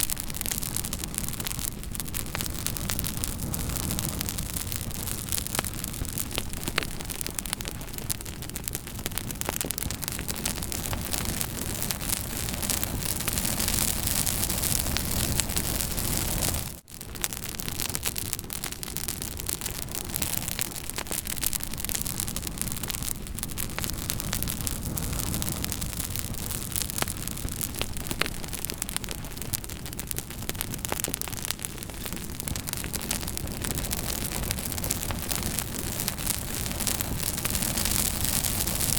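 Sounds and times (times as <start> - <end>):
campfire hiss and rumble: 0.0 - 38.9
fire crackling and popping: 0.0 - 38.9.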